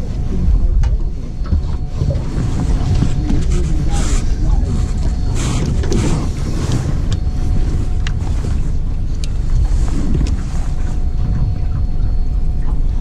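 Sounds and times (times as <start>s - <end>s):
boat motor running: 0.0s - 13.0s
wind buffeting microphone: 0.0s - 13.0s.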